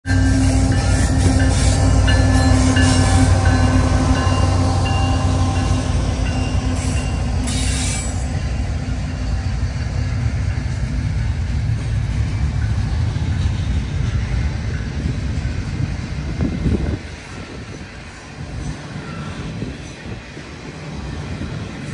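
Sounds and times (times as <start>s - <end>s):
diesel locomotive engine hum: 0.0s - 21.9s.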